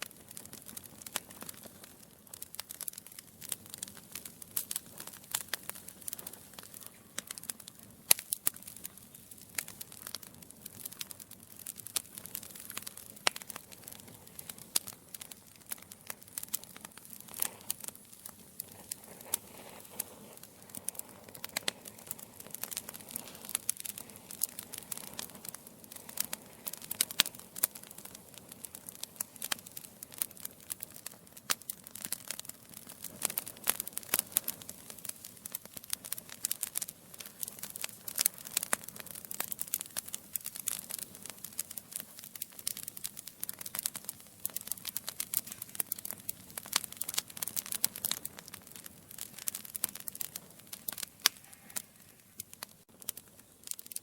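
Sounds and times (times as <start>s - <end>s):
faint hiss: 0.0s - 54.0s
logs crackling in a fireplace: 0.0s - 54.0s.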